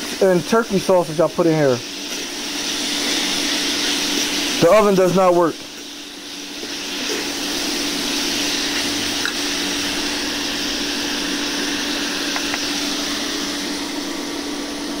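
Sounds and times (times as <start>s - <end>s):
sausages sizzling in a grill pan: 0.0s - 15.0s.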